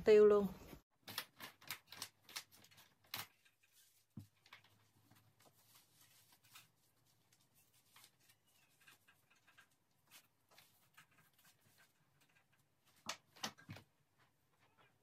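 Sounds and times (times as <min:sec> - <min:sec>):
faint clicks and rustles: 0:01.0 - 0:15.0.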